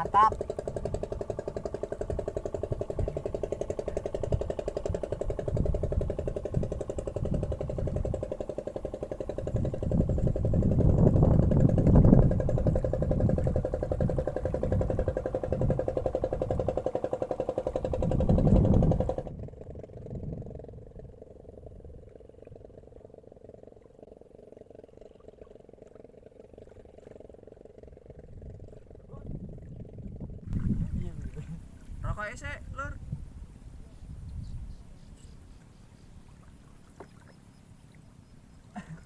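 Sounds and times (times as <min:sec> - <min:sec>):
small engine running: 0:00.0 - 0:32.8
low rumble: 0:00.0 - 0:37.3.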